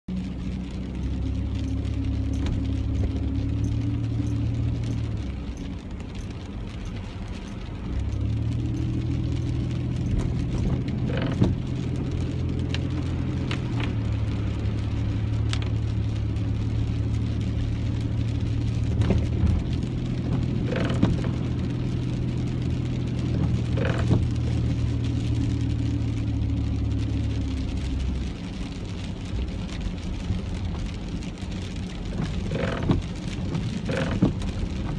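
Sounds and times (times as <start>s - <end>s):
road and engine rumble: 0.0s - 34.9s.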